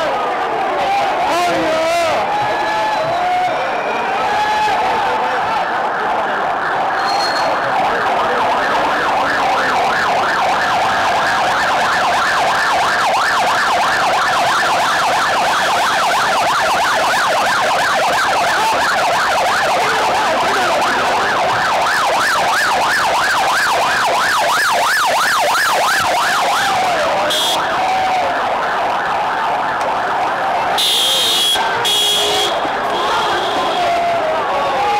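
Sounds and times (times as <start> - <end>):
police siren yelping: 0.0 - 34.9.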